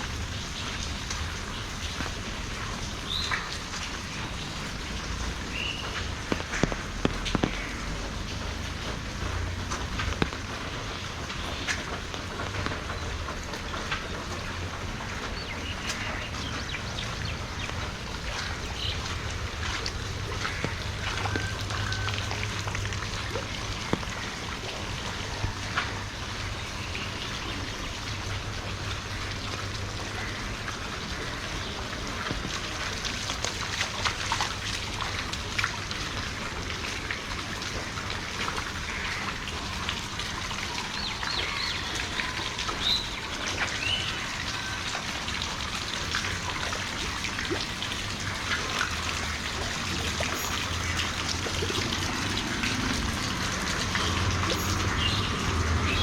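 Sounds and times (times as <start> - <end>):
rainwater trickling and dripping: 0.0 - 56.0.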